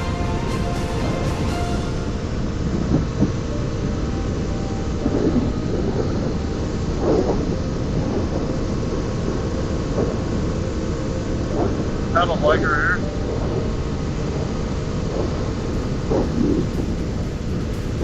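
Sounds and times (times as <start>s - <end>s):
wind rushing on microphone: 0.0s - 18.0s.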